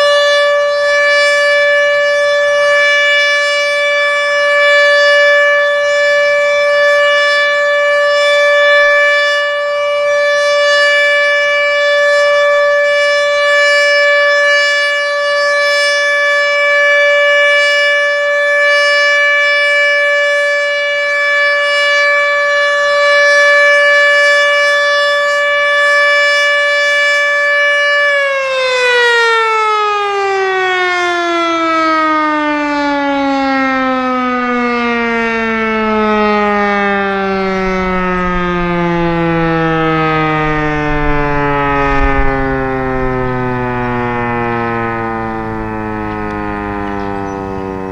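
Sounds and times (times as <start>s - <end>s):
outdoor warning siren: 0.0s - 47.9s.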